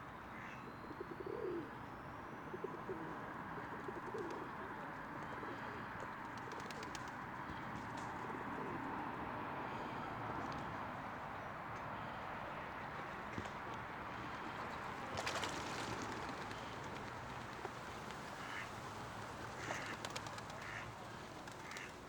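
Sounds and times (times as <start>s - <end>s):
birds soft cooing calls: 0.1s - 22.0s.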